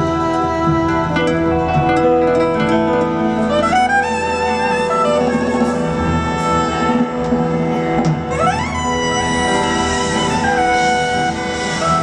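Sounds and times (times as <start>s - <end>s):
live band playing instrumental: 0.0s - 12.0s.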